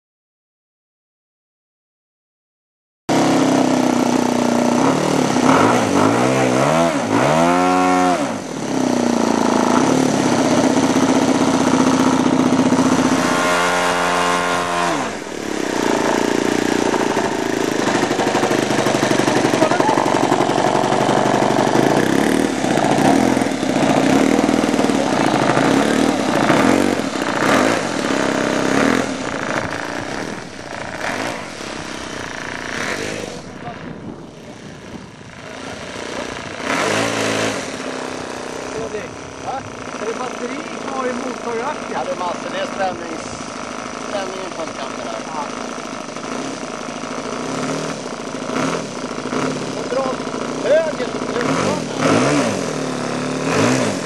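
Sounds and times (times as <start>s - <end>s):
model plane engine revving: 3.1s - 54.0s.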